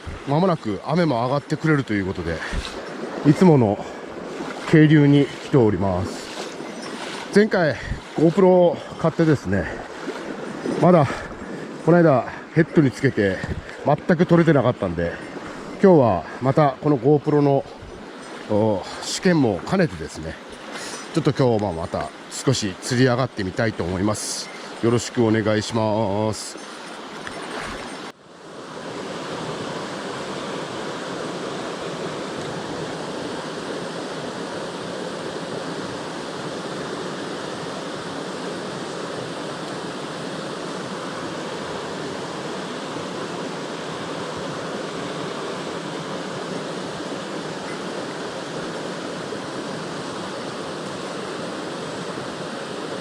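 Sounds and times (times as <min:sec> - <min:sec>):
stream rushing over rocks: 0:00.0 - 0:28.1, 0:28.7 - 0:53.0.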